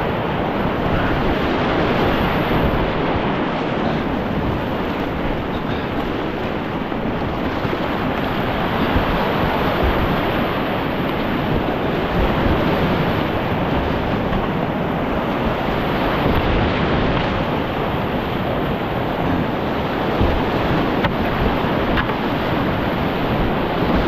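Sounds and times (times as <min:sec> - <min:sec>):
whitewater rushing: 0:00.0 - 0:24.0.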